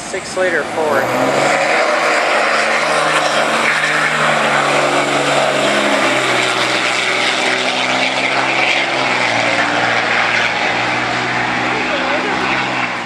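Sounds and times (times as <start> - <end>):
diesel trucks racing: 0.0 - 13.0.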